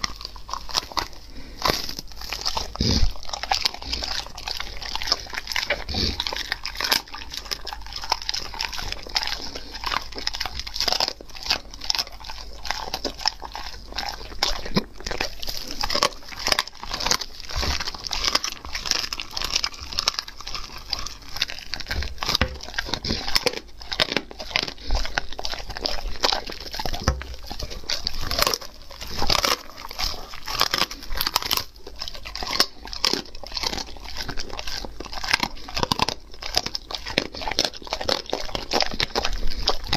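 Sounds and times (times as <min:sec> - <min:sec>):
dog chewing and crunching: 0:00.0 - 0:39.9.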